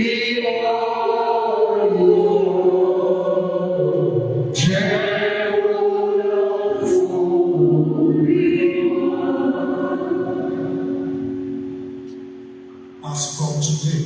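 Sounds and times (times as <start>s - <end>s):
group singing a slow worship song: 0.0s - 14.0s.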